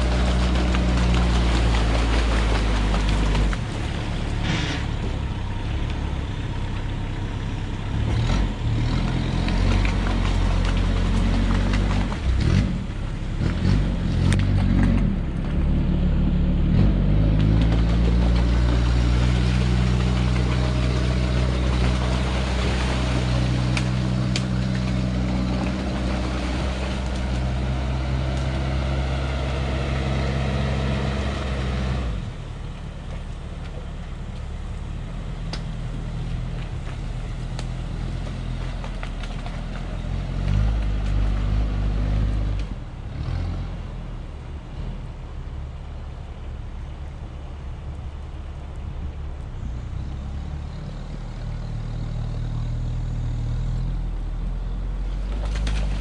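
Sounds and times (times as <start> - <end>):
tyres churning and splashing water: 0.0 - 15.9, 16.6 - 50.4, 53.4 - 56.0
diesel engine under load: 0.0 - 56.0.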